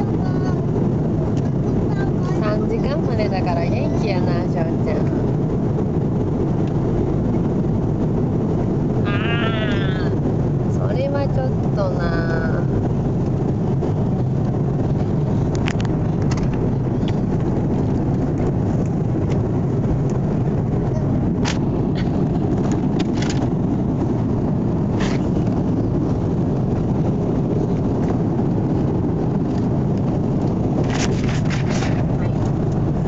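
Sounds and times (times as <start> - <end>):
airliner cabin drone: 0.0 - 33.0.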